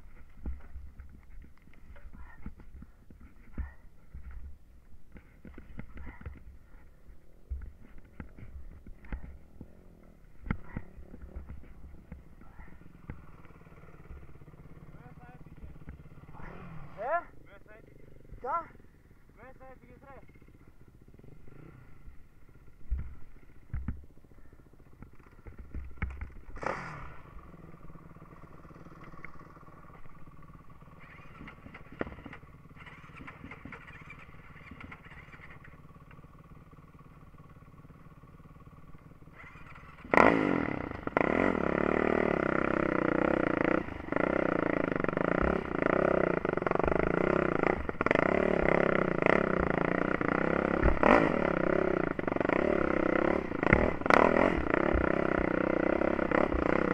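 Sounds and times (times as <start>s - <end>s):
engine knocks and clatters: 0.0s - 17.0s, 17.8s - 56.9s
atv engine running and revving: 0.0s - 56.9s.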